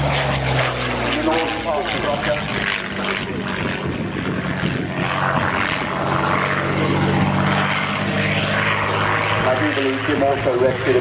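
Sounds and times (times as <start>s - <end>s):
propeller aircraft droning: 0.0s - 11.0s.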